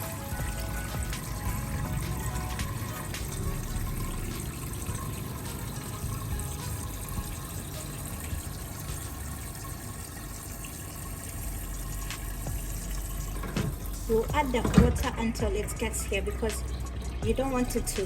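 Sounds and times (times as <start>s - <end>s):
water running into a bucket: 0.0s - 18.0s.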